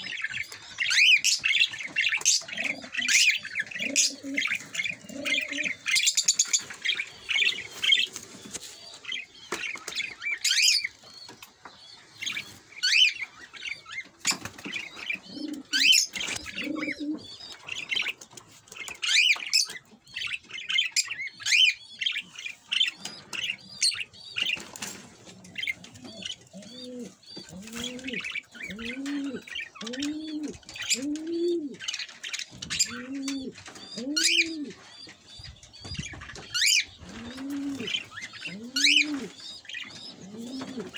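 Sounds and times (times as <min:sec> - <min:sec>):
dove cooing: 0:00.0 - 0:11.0, 0:12.2 - 0:18.2, 0:22.8 - 0:32.0, 0:32.6 - 0:40.9
parrots chirping and chattering: 0:00.0 - 0:40.9.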